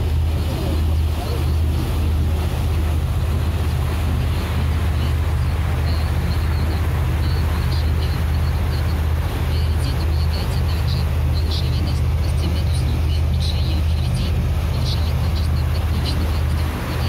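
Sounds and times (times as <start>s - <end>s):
churning wake water: 0.0s - 17.0s
motorboat engine drone: 0.0s - 17.0s.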